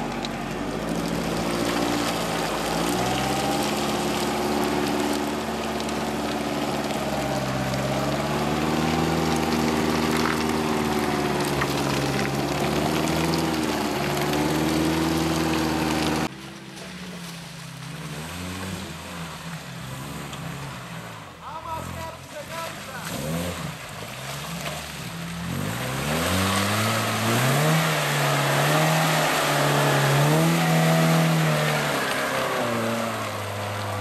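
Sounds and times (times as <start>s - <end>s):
distant engine crawling through mud: 0.0s - 34.0s
engine revving in mud: 0.0s - 34.0s.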